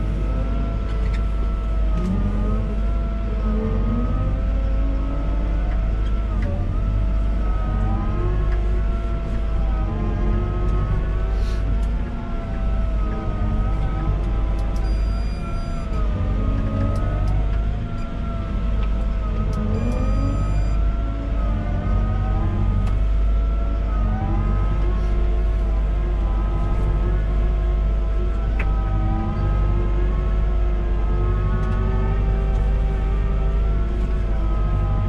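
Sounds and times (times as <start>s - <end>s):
diesel engine humming: 0.0s - 35.0s
hydraulic whine: 0.0s - 35.0s.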